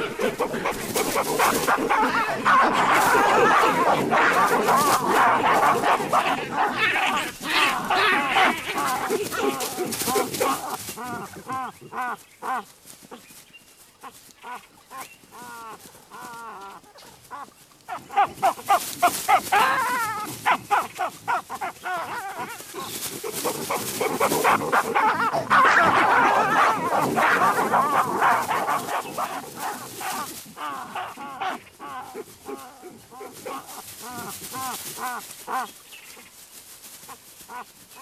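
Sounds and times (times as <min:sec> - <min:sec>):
baboons screaming and barking: 0:00.0 - 0:13.2, 0:14.0 - 0:36.3, 0:37.0 - 0:38.0.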